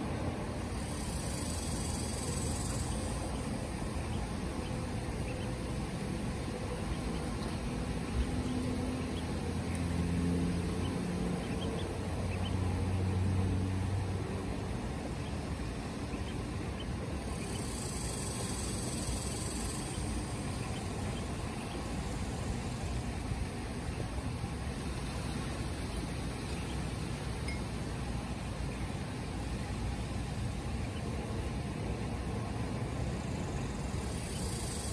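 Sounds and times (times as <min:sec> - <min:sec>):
low mechanical hum: 0:00.0 - 0:34.9.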